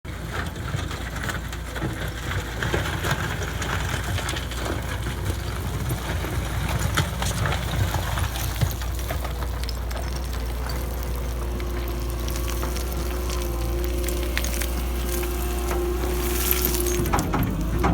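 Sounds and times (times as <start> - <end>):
diesel engine running: 0.1 - 17.9.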